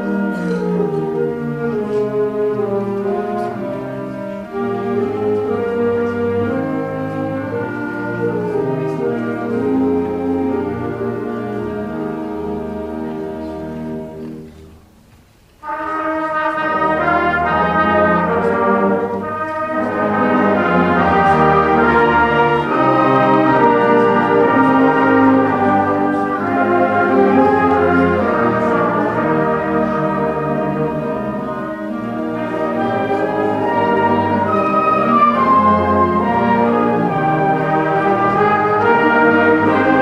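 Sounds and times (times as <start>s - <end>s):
symphonic band playing: 0.0s - 40.0s.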